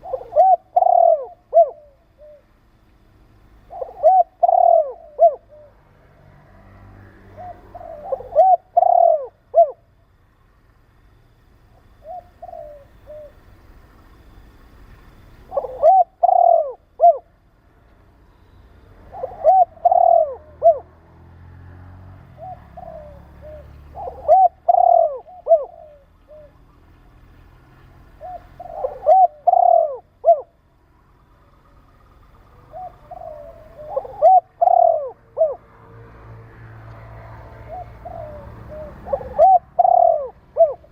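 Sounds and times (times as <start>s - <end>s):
dove cooing: 0.0s - 2.8s, 3.4s - 9.9s, 11.7s - 17.5s, 18.9s - 30.7s, 31.7s - 40.9s.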